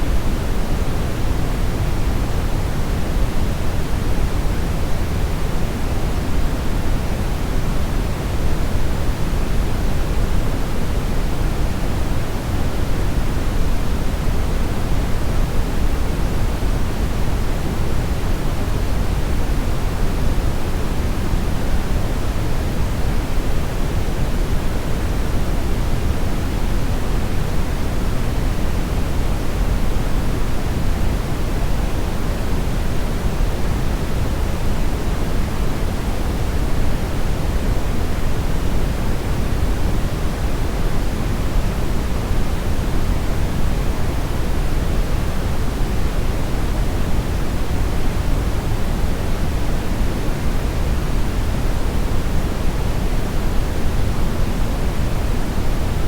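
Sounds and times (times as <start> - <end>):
brown noise hiss-rumble: 0.0 - 56.0.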